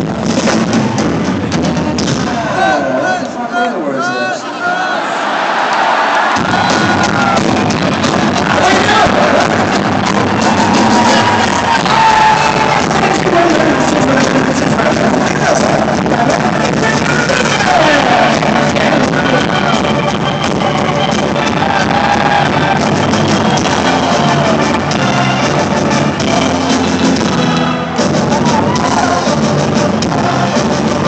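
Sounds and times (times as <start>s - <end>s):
live rock band playing: 0.0s - 2.6s, 6.3s - 31.0s.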